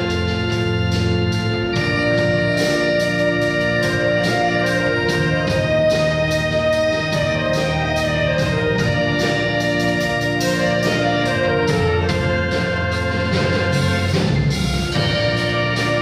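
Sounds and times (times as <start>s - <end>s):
orchestra playing a hymn: 0.0s - 16.0s.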